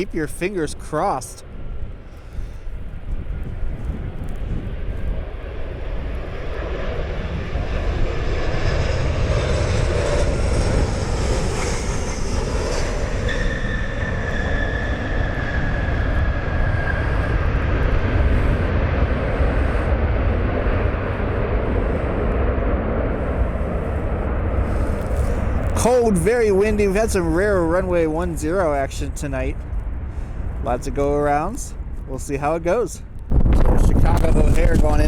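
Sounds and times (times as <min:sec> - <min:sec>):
jet engines whining: 0:00.0 - 0:35.0
wind rumble on microphone: 0:00.0 - 0:35.0.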